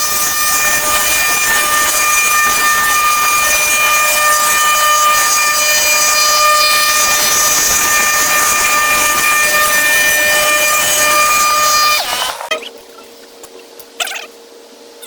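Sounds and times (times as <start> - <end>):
machine whining: 0.0 - 13.2.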